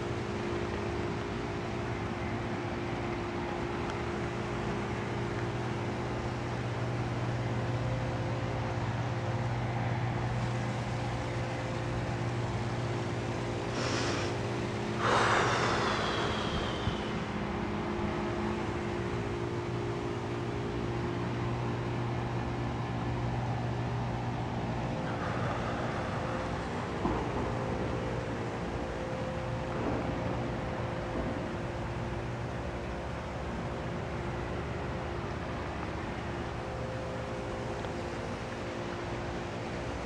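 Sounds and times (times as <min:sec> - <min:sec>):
rushing sound with falling whine: 0:00.0 - 0:21.6, 0:23.4 - 0:40.0
low mechanical hum: 0:00.0 - 0:40.0.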